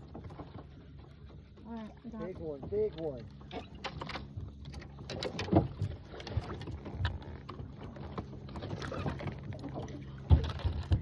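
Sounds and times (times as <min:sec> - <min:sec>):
boat motor humming: 0:00.0 - 0:11.0
knocks and clatter on boat: 0:00.0 - 0:11.0.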